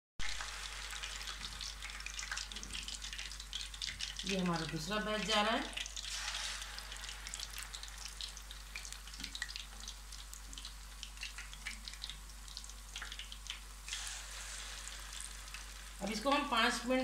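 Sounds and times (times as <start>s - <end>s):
fish deep-frying in oil: 0.2s - 17.0s.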